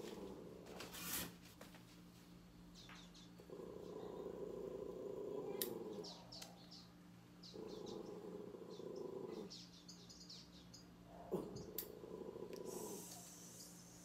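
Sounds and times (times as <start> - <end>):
small birds chirping: 2.5 - 14.0.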